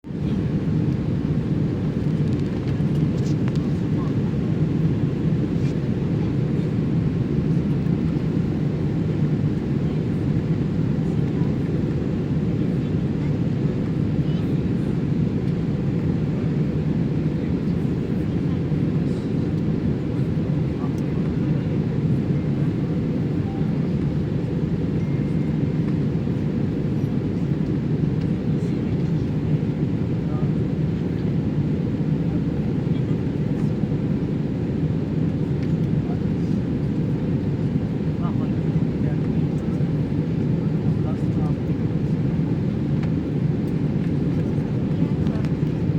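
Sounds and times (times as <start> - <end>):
airliner cabin engine drone: 0.0 - 45.9.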